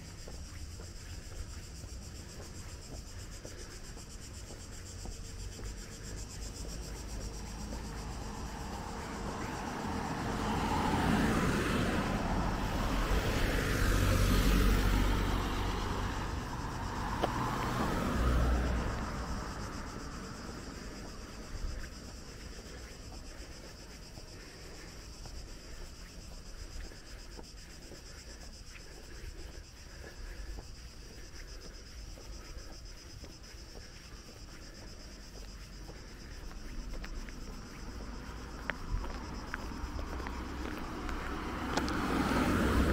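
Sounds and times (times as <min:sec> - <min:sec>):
insects chirring: 0:00.0 - 0:42.9
vehicle passing: 0:03.6 - 0:42.9.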